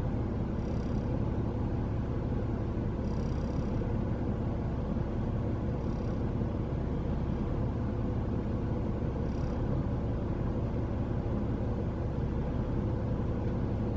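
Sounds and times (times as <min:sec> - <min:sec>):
low outdoor rumble: 0:00.0 - 0:13.9.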